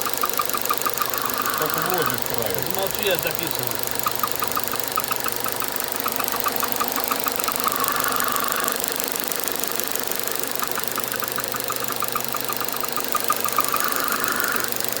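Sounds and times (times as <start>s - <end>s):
rapid mechanical ticking: 0.0s - 15.0s.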